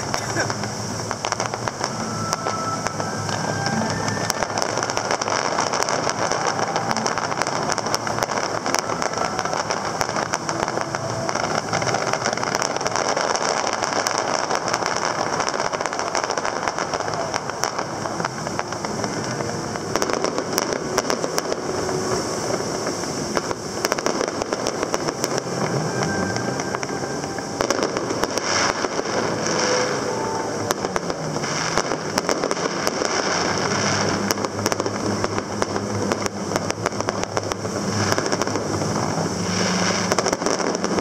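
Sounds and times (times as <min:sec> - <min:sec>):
fireworks crackling and popping: 0:00.0 - 0:41.0
loud firework reports: 0:00.0 - 0:41.0.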